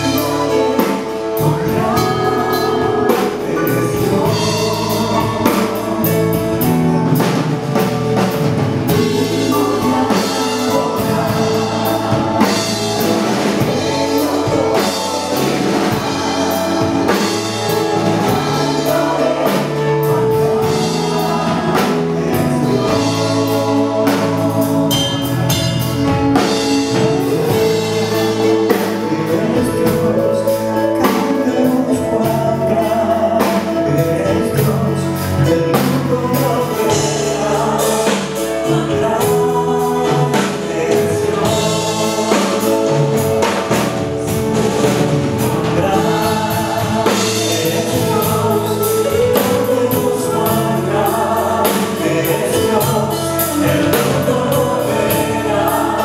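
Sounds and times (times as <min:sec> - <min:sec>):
drums: 0:00.0 - 0:56.0
keyboard: 0:00.0 - 0:56.0
singers singing together: 0:00.0 - 0:56.0.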